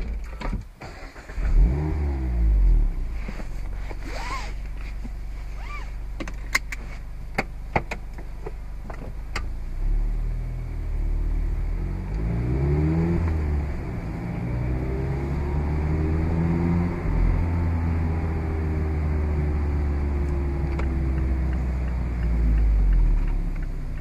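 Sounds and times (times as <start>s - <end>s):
car engine running: 1.4s - 24.0s.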